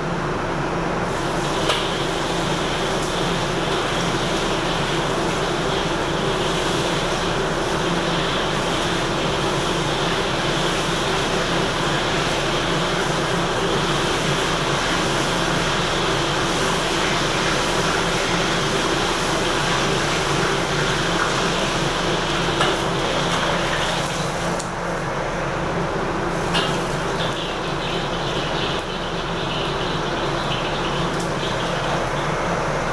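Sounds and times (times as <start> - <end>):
gas burners and fan roaring: 0.0 - 32.9.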